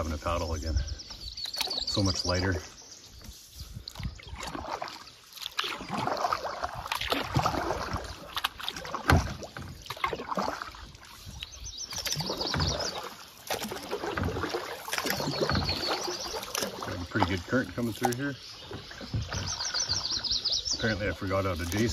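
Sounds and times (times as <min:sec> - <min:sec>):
paddle splashing through water: 0:00.0 - 0:21.9.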